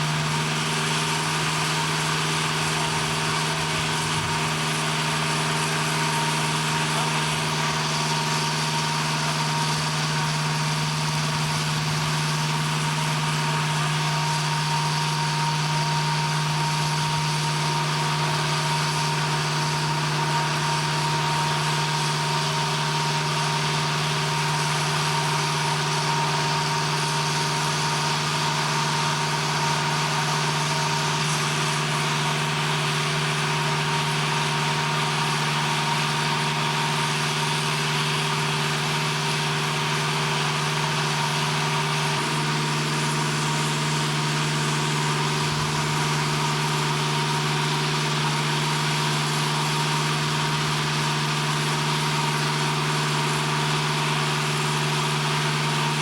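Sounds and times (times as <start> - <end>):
machinery drone: 0.0 - 54.2.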